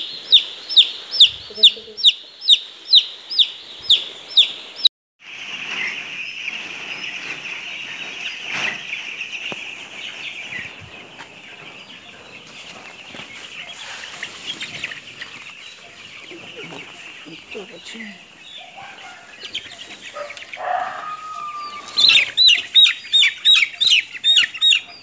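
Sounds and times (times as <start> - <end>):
chick peeping: 0.0 - 25.0
flock of chicks cheeping: 0.0 - 25.0.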